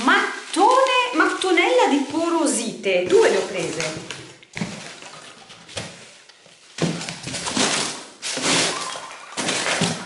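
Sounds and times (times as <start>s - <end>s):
bubble wrap crinkling: 0.0s - 10.0s
rummaging in packing peanuts: 0.0s - 10.0s.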